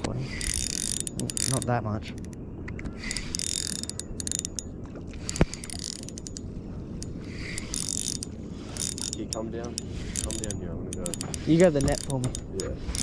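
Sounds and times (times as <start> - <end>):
fishing reel clicking: 0.3 - 2.4, 3.0 - 6.4, 7.0 - 13.0.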